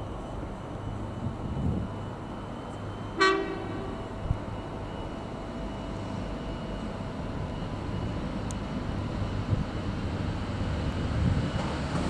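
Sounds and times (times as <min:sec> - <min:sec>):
train engines and wheels rumbling: 0:00.0 - 0:12.0.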